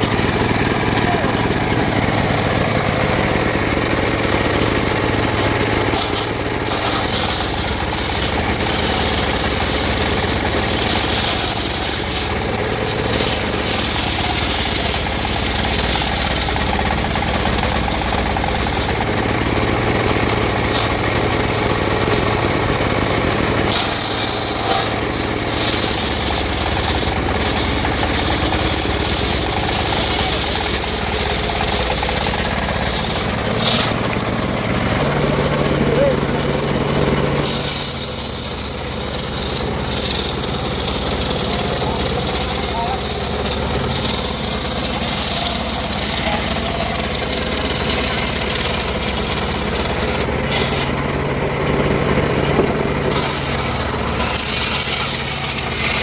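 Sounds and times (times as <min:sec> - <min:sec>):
sawing machine engine running: 0:00.0 - 0:56.0.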